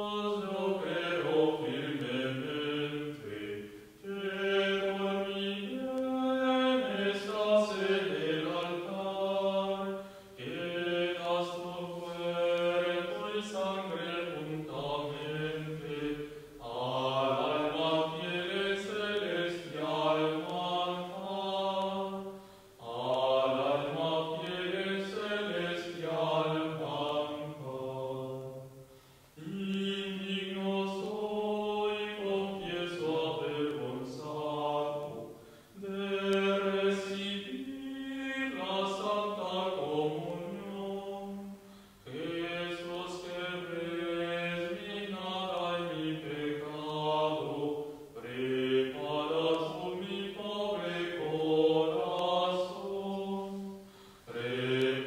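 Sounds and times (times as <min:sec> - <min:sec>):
communion chant: 0:00.0 - 0:55.0.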